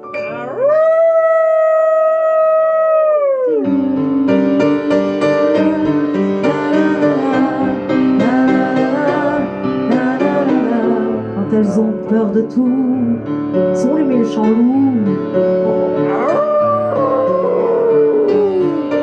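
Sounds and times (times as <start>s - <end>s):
piano-led instrumental music: 0.0s - 1.4s, 3.5s - 19.0s.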